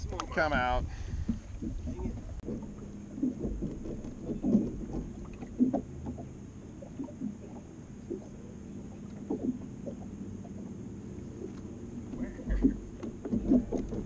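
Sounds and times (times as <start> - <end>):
waves slapping against boat hull: 0.0 - 14.0
wind rumble on microphone: 0.0 - 14.0.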